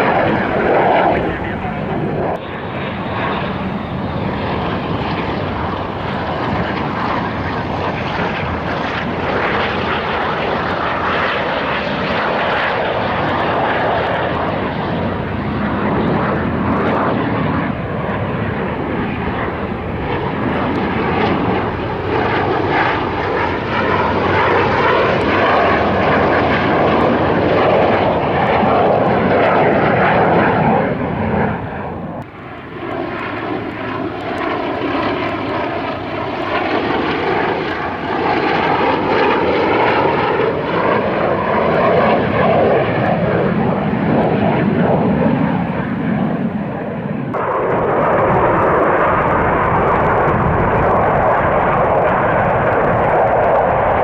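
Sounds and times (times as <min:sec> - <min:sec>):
aircraft engine noise: 0:00.0 - 0:54.0.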